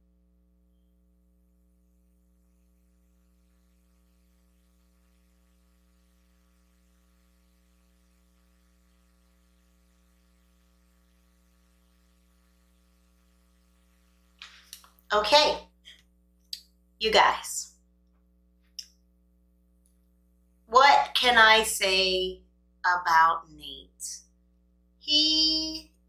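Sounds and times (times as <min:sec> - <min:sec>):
faint mains hum with hiss: 0:00.0 - 0:26.0.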